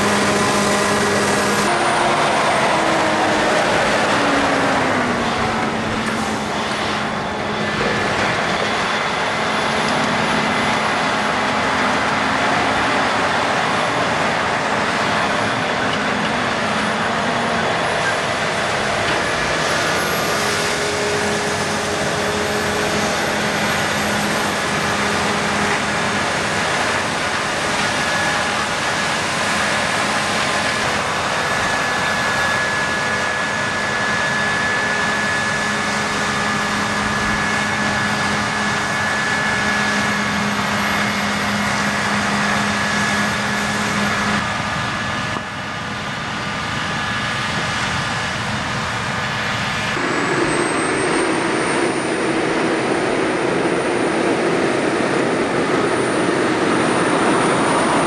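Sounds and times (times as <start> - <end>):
combine harvester din with whine: 0.0 - 58.0
tractor engine: 0.0 - 58.0.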